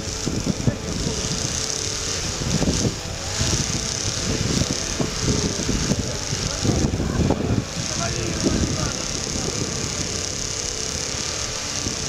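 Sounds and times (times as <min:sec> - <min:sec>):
car engine running hard: 0:00.0 - 0:12.0
wheels spinning in snow: 0:00.0 - 0:12.0.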